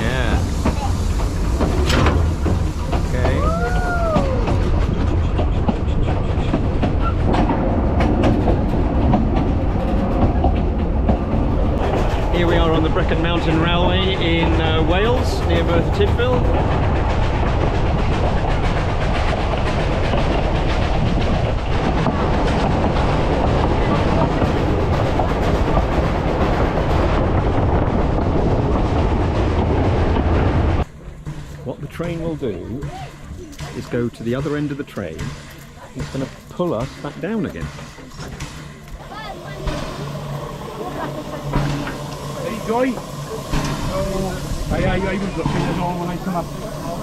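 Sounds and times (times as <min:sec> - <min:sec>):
railway carriage rumbling: 0:00.0 - 0:47.0
wheels and couplings clicking: 0:00.5 - 0:47.0.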